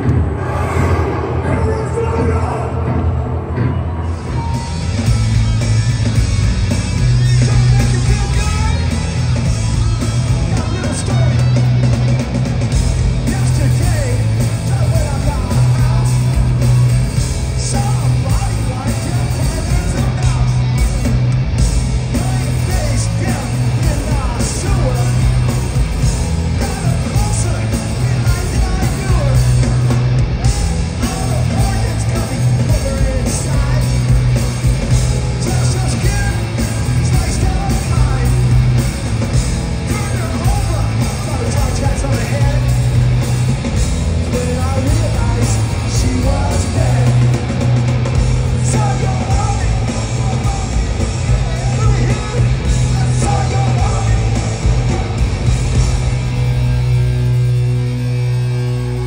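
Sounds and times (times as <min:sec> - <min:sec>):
distorted electric guitars: 0:00.0 - 0:59.0
heavy pulsing bass: 0:00.0 - 0:59.0.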